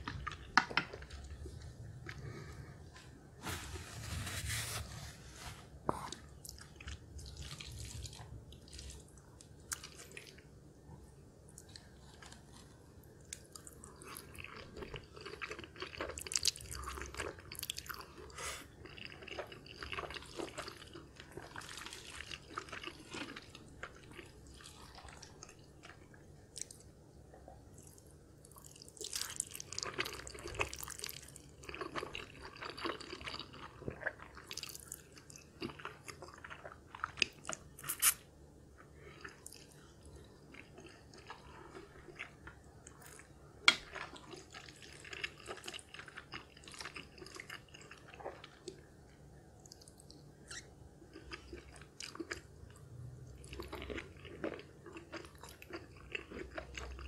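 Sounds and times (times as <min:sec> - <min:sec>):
wet chewing of noodles: 0:00.0 - 0:02.9, 0:06.1 - 0:10.5, 0:11.5 - 0:26.9, 0:27.8 - 0:49.0, 0:49.6 - 0:57.0.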